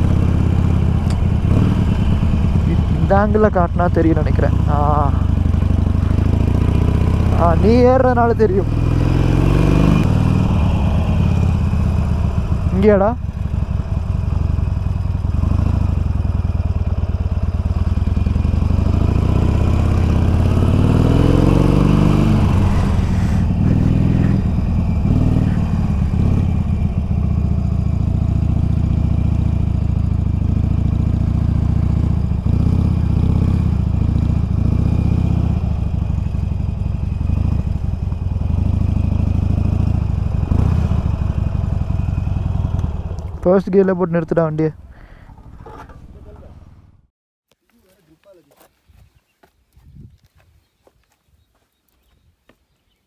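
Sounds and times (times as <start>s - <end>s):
motorcycle engine climbing: 0.0s - 53.0s.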